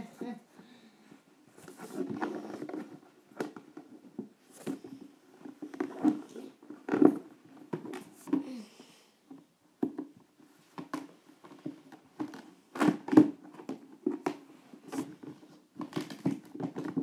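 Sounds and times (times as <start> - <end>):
rustling and scraping: 0.0 - 8.7, 9.3 - 17.0.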